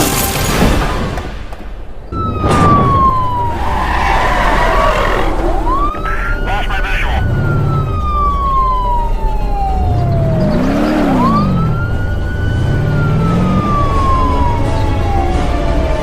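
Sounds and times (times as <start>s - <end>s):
vehicle engine rumble: 1.4s - 16.0s
police siren wailing: 2.1s - 16.0s.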